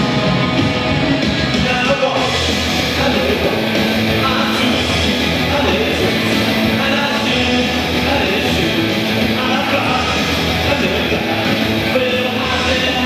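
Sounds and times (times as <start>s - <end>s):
loud rock music with singing: 0.0s - 13.0s.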